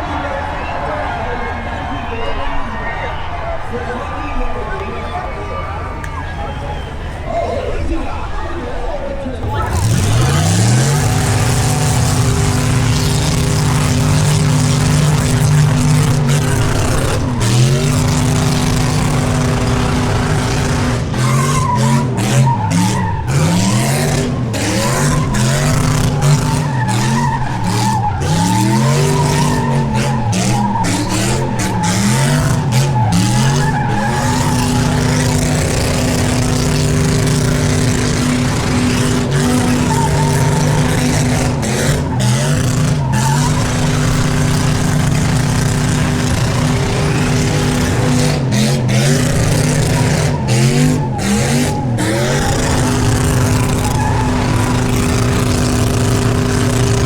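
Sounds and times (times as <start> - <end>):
car engine revving: 9.4 - 57.0
tyres squealing: 9.4 - 57.0.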